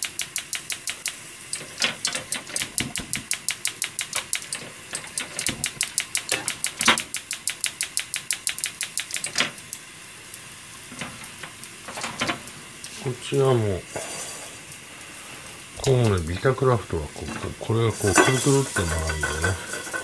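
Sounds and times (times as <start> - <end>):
spark igniter clicking rapidly: 0.0 - 20.0.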